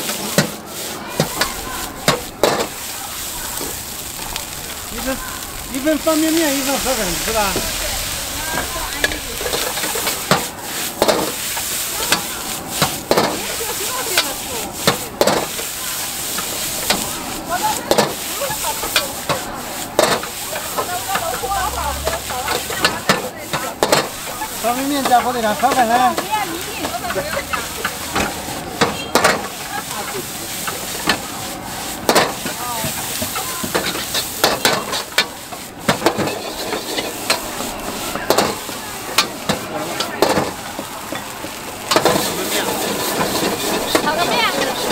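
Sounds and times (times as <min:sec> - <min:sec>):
gas burner hissing: 0:00.0 - 0:44.9
steady sizzle: 0:00.0 - 0:44.9
metal ladle scraping a wok: 0:06.3 - 0:39.6, 0:41.9 - 0:44.9.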